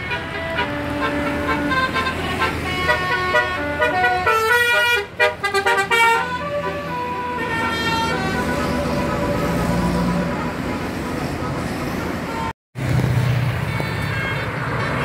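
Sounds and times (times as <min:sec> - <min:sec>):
bus horn playing a tune: 0:00.0 - 0:12.5, 0:13.6 - 0:15.0
vehicle engine humming: 0:00.0 - 0:15.0.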